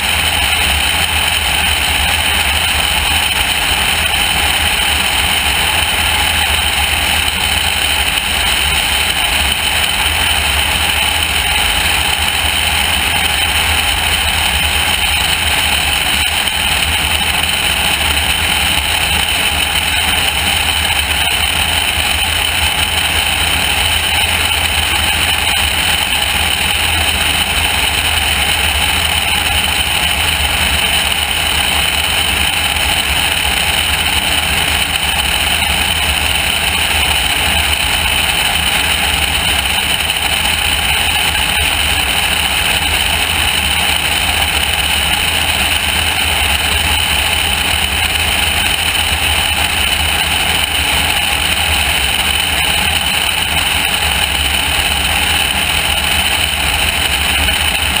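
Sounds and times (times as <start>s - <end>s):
aircraft piston engine drone: 0.0s - 58.0s.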